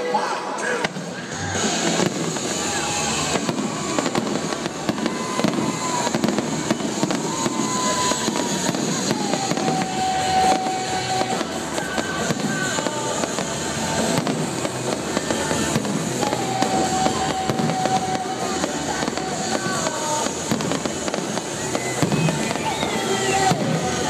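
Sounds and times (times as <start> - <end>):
fireworks crackling and popping: 0.6 - 24.0.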